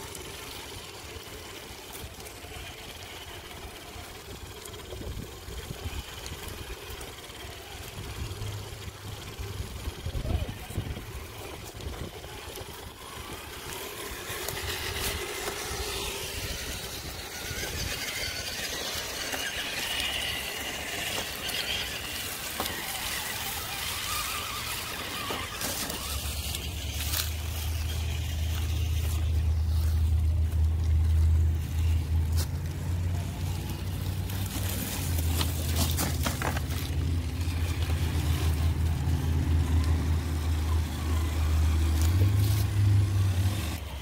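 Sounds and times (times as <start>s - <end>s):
electric motor and gears whining: 0.0s - 44.0s.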